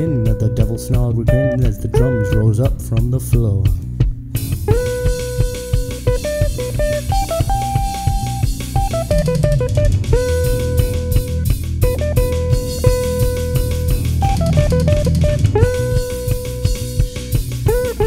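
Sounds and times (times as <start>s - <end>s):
lead guitar melody: 0.0s - 2.7s, 4.7s - 18.0s
drum kit playing a driving beat: 0.0s - 18.0s.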